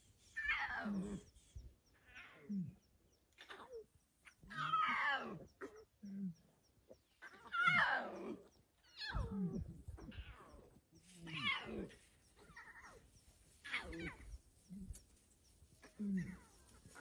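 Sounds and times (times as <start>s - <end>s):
lion cubs mewing calls: 0.3s - 17.0s.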